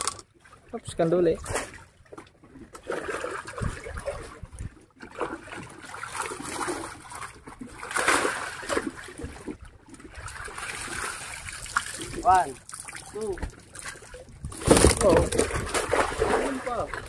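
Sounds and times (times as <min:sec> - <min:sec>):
water splashing and trickling: 0:00.0 - 0:17.0.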